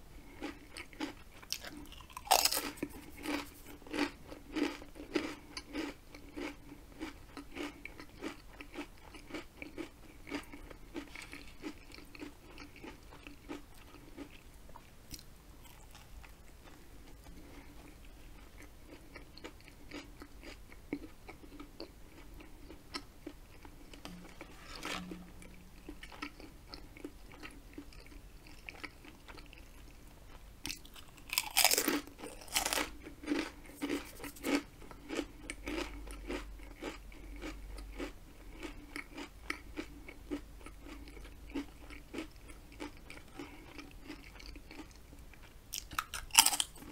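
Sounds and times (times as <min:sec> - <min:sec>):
person chewing a sandwich: 0:00.2 - 0:46.9
potato chip crunching: 0:00.4 - 0:14.4, 0:18.4 - 0:29.6, 0:30.6 - 0:45.0, 0:45.7 - 0:46.9.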